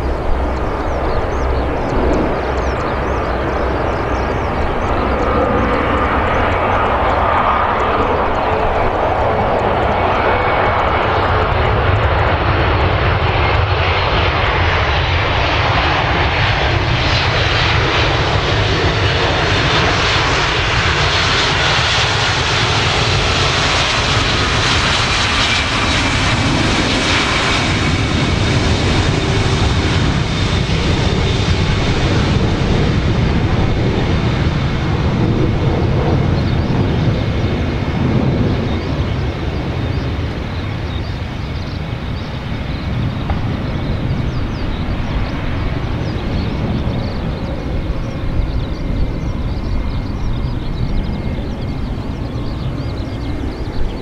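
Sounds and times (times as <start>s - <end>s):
high engine whine: 0.0s - 54.0s
jet engines rushing: 0.0s - 54.0s.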